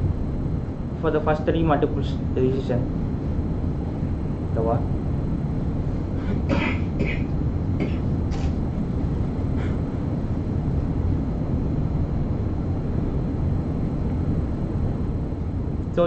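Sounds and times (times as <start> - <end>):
low rumble of room noise: 0.0 - 16.0.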